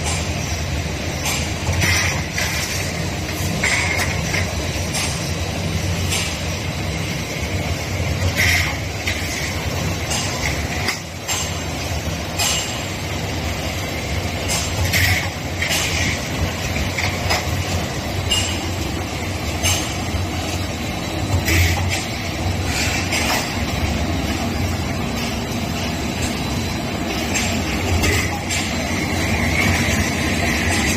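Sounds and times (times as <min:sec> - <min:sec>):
metallic clanks and clicks: 0:00.0 - 0:05.4, 0:06.0 - 0:06.5, 0:08.2 - 0:13.0, 0:14.4 - 0:30.9
low machine hum: 0:00.0 - 0:30.9.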